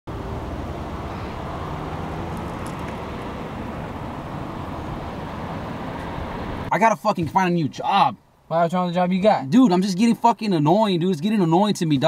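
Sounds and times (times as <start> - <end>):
vehicle and road rumble: 0.1 - 12.0.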